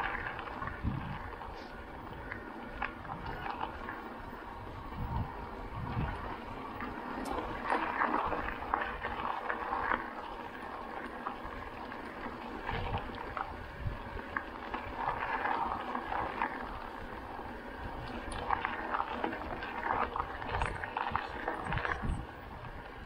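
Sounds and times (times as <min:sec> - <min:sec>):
bike tyres rolling on rough track: 0:00.0 - 0:23.0
wind rumbling on microphone: 0:00.0 - 0:23.0.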